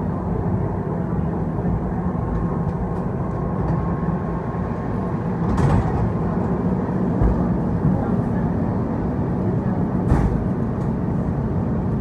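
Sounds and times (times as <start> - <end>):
train wheels rumbling: 1.7 - 12.0.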